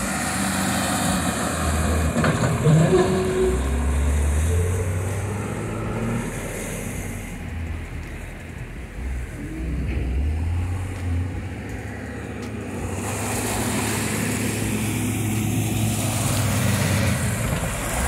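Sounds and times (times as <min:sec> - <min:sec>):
diesel engines rumbling: 0:00.0 - 0:18.0.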